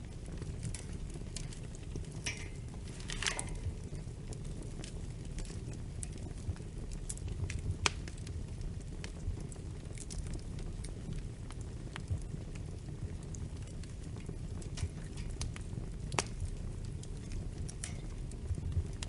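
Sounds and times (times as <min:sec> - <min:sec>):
fire popping: 0:00.0 - 0:19.0
fireplace fire crackling: 0:00.0 - 0:19.0
steady low rumble: 0:00.0 - 0:19.0.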